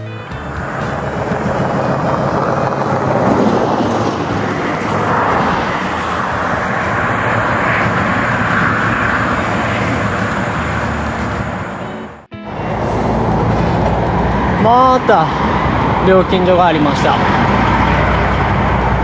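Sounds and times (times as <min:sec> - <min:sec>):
highway traffic rushing: 0:00.0 - 0:19.0.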